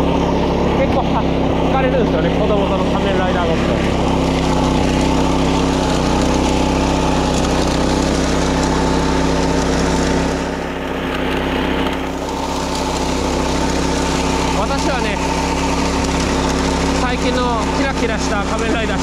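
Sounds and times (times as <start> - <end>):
mower engine cutting grass: 0.0 - 19.0.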